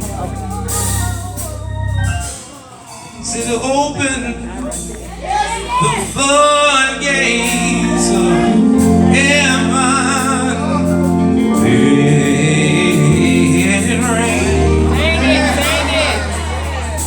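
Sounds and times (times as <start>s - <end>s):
instrumental accompaniment: 0.0s - 17.0s
gospel choir singing: 3.2s - 17.0s.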